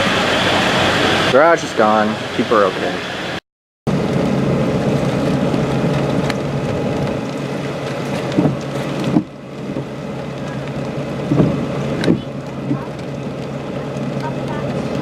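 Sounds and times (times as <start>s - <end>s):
vehicle running hum: 0.0s - 15.0s.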